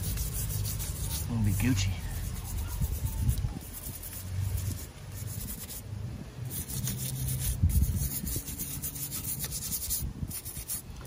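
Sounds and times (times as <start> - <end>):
hand scrubbing metal: 0.0 - 5.8, 6.4 - 10.8.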